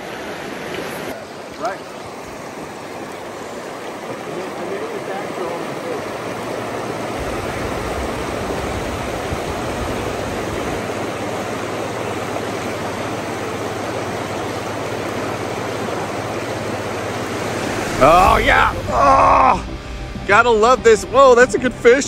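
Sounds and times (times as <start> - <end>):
river rushing over rocks: 0.0 - 20.1.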